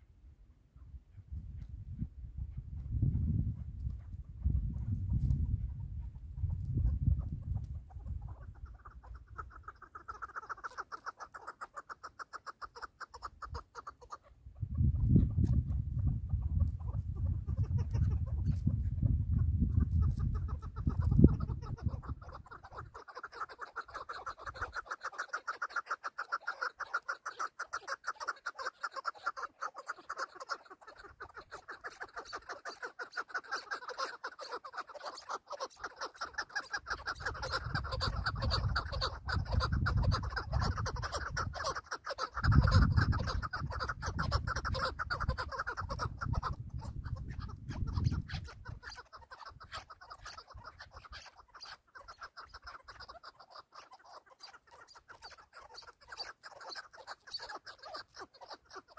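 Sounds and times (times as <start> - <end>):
partridge clucking calls: 2.5 - 58.9.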